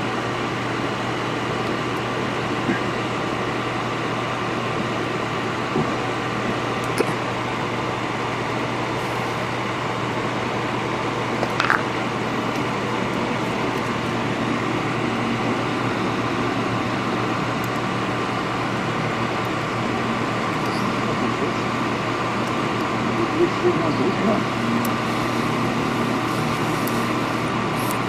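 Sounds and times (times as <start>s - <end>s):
fan running with low hum: 0.0s - 28.0s.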